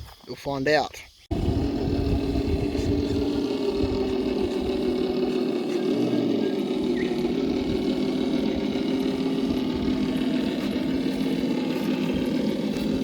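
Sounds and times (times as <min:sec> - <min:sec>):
motor humming: 0:01.3 - 0:13.0.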